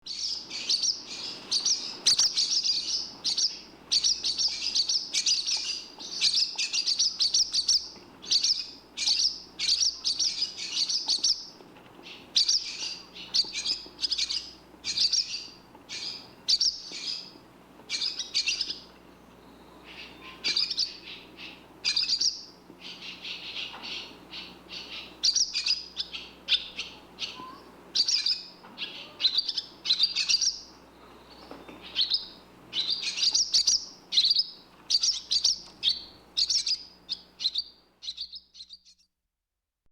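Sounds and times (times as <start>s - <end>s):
swallow twittering: 0.0s - 39.0s.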